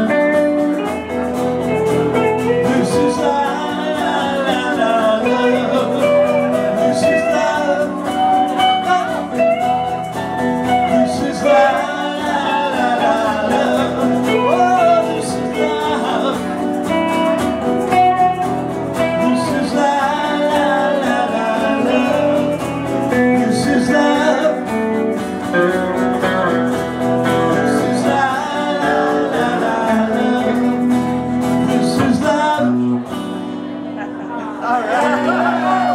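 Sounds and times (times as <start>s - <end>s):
person singing: 0.0s - 33.3s, 34.2s - 35.9s
acoustic and electric guitars: 0.0s - 35.9s
live pop band playing: 0.0s - 35.9s.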